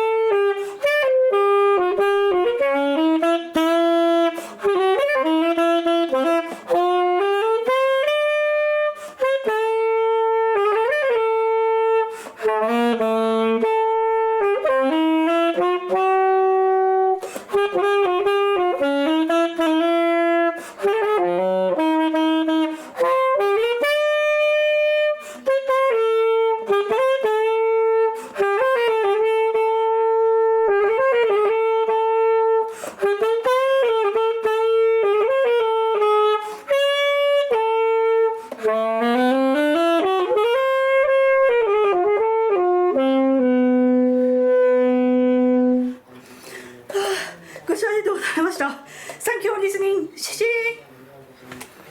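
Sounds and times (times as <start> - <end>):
alto saxophone jazz melody: 0.0 - 50.1.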